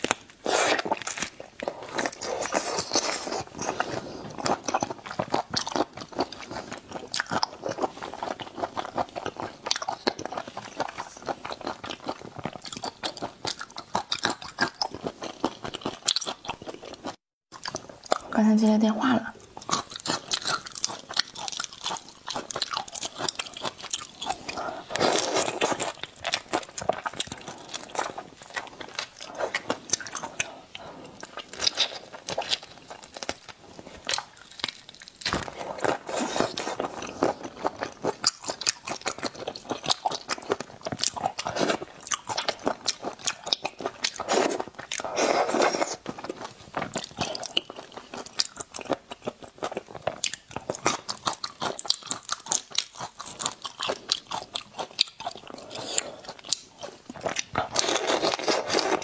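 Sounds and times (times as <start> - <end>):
wet crunching and chewing: 0.0 - 18.3, 19.4 - 59.0.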